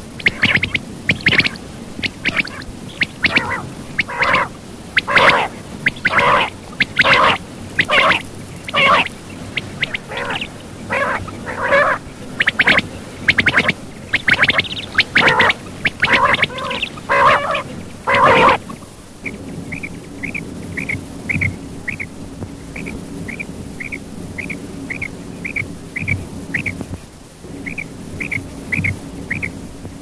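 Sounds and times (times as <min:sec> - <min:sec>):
harsh quail call bursts: 0:00.0 - 0:22.2, 0:22.8 - 0:26.8, 0:27.6 - 0:29.6.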